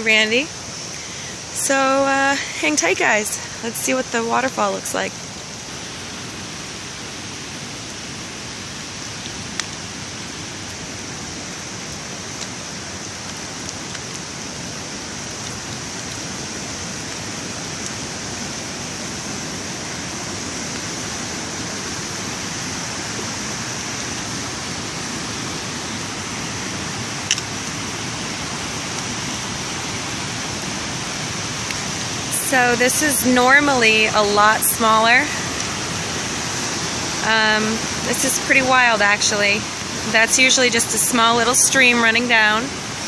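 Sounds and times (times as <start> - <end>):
waterfall and stream rushing: 0.0 - 43.0.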